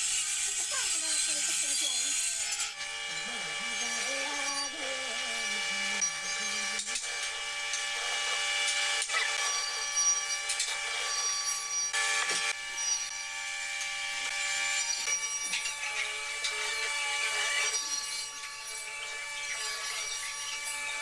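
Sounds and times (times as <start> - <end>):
power tool cutting wood: 0.0 - 21.0.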